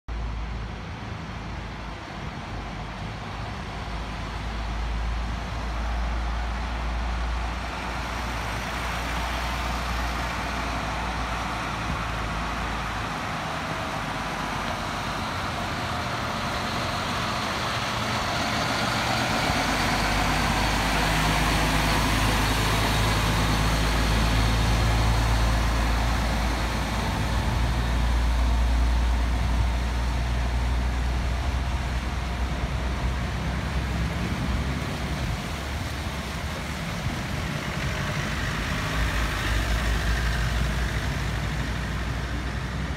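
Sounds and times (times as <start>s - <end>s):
lorry diesel engine hum: 0.1s - 42.9s.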